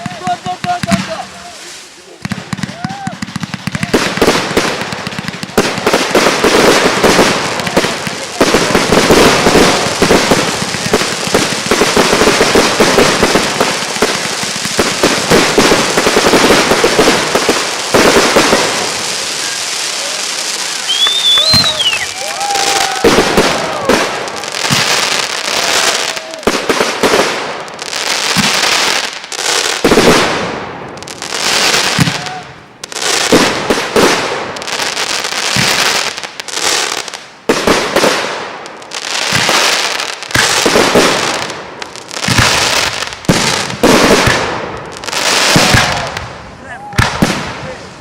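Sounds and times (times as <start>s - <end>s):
fireworks bangs with crackling hiss: 0.0s - 48.0s.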